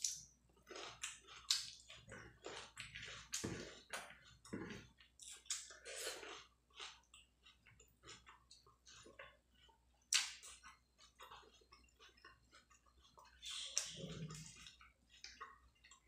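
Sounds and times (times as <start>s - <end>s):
chewing and mouth sounds: 0.0s - 16.0s.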